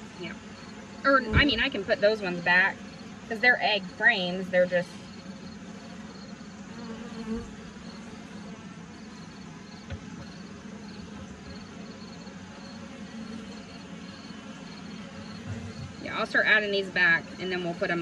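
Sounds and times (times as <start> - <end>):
bees droning: 0.0 - 18.0.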